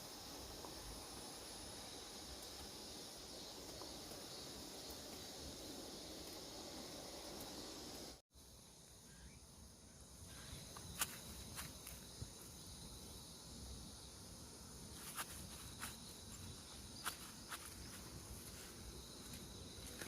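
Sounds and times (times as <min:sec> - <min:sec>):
crickets and insects shrilling: 0:00.0 - 0:20.0.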